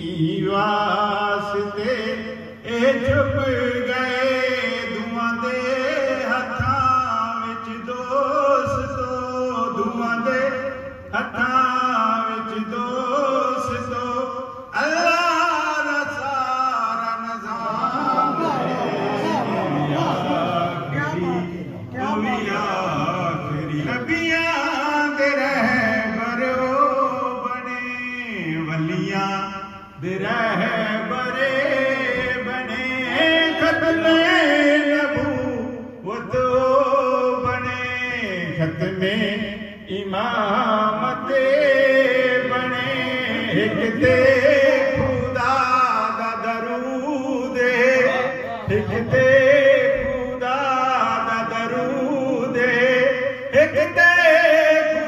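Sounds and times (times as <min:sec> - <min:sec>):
man chanting into microphone: 0:00.0 - 0:55.0.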